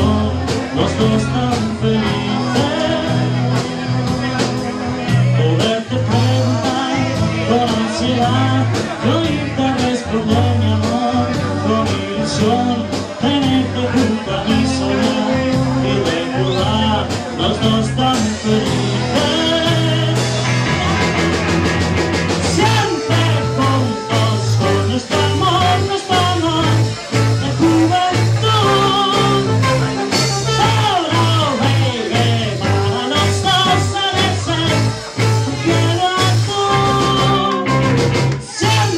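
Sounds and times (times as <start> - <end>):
person singing: 0.0 - 21.7, 22.3 - 38.9
live rock and roll band: 0.0 - 38.9.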